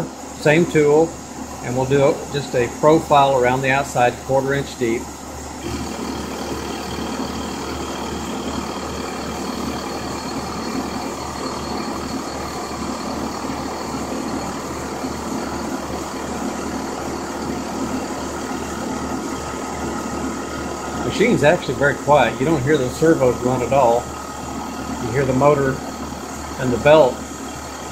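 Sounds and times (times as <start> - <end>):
milling machine cutting metal: 0.0 - 27.9.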